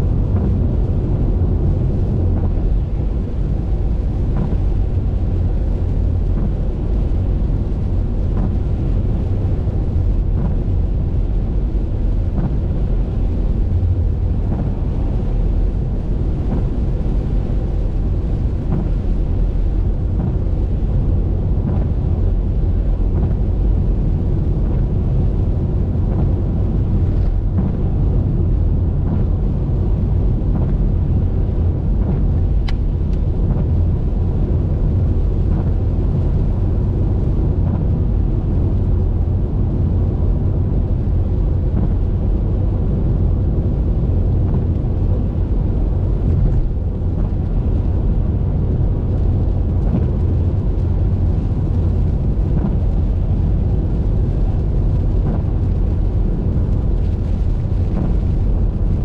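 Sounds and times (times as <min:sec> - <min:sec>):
car tyre and wind noise: 0:00.0 - 0:59.0.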